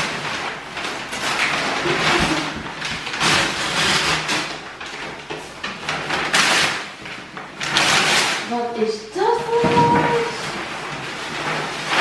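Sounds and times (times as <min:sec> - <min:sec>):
wrapping paper tearing: 0:00.0 - 0:12.0.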